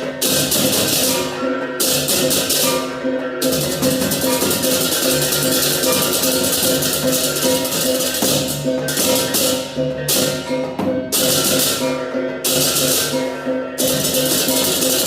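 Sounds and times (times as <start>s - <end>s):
clashing cymbals: 0.0s - 15.0s
drums: 0.0s - 15.0s.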